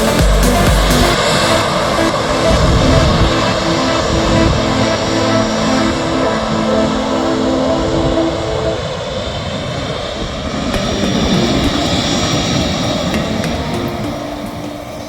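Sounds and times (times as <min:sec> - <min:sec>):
high engine whine: 0:00.0 - 0:15.0
jet engines rushing: 0:00.0 - 0:15.0.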